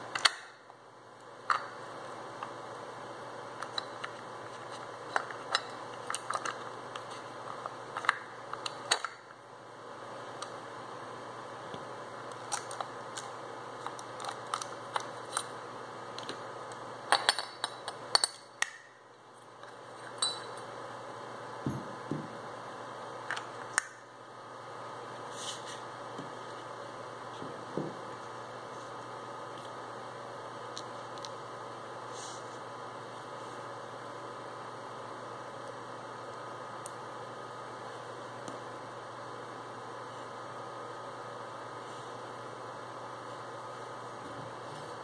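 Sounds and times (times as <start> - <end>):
steady hum: 0.0 - 45.0.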